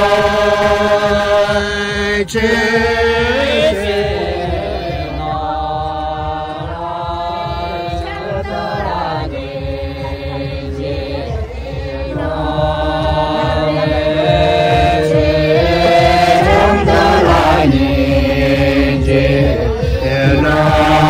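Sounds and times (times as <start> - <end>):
men and women chanting in unison: 0.0 - 21.0.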